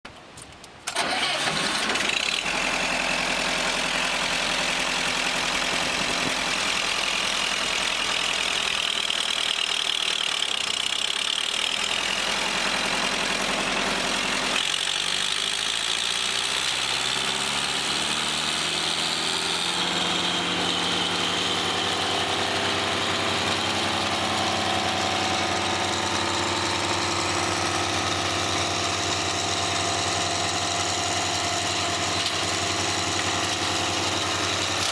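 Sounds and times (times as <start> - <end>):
brush chipper engine running: 0.9 - 34.9.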